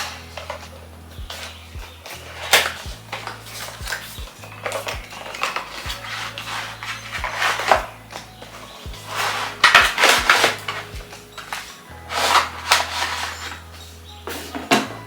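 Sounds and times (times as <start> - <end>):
brushy percussion hits: 0.0 - 13.6
sustained low bass notes: 0.0 - 15.0.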